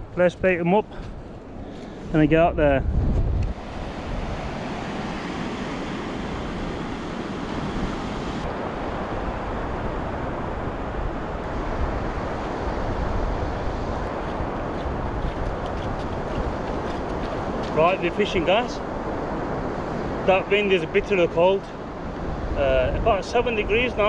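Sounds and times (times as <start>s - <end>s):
wind on microphone: 2.0s - 20.4s, 21.7s - 24.0s.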